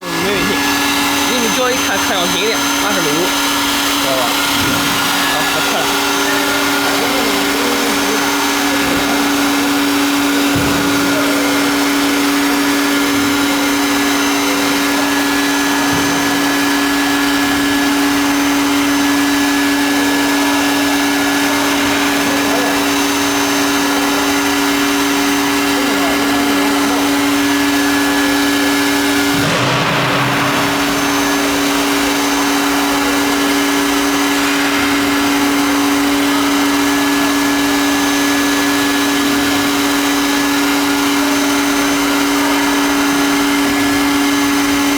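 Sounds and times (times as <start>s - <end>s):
router spindle motor whine: 0.0s - 44.9s.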